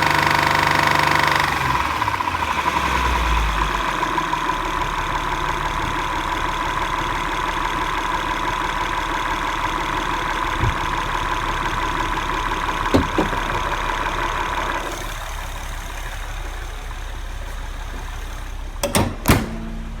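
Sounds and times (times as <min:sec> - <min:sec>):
car engine idling with knocking: 0:00.0 - 0:20.0.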